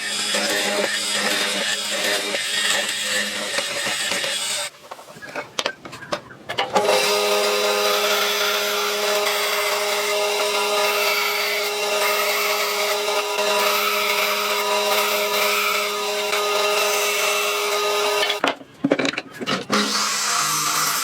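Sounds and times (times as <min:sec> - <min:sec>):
electric power tool whining: 0:00.0 - 0:04.7, 0:06.8 - 0:18.4, 0:19.5 - 0:21.0.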